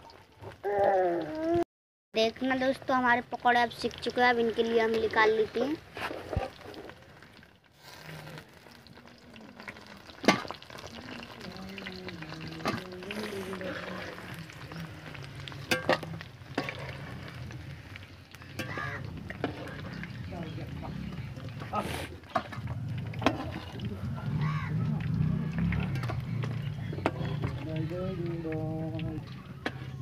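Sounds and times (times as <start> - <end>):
deep-frying sizzle: 2.4 - 30.0.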